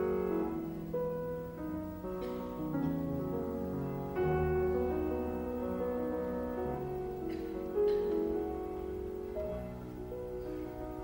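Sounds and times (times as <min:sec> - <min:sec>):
slow soft instrumental music: 0:00.0 - 0:11.0.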